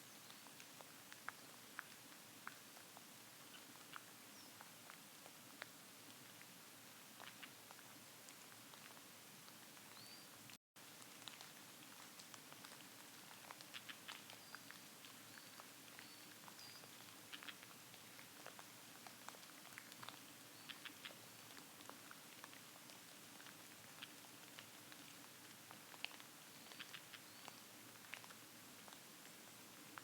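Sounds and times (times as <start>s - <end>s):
faint ticks and rustles: 0.0s - 30.0s.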